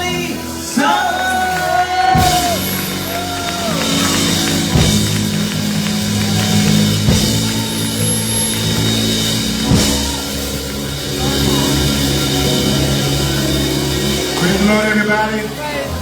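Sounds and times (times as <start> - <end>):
live gospel band music: 0.0 - 16.0
long held low chords: 0.0 - 16.0
drum kit accented hits: 2.1 - 15.6.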